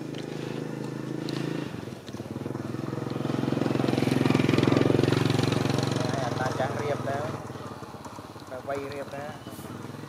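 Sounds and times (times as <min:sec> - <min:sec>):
small engine puttering: 0:00.0 - 0:10.0.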